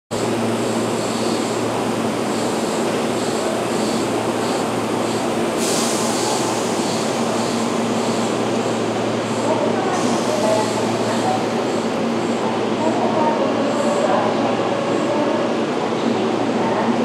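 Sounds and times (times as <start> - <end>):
electric train humming: 0.2 - 16.6.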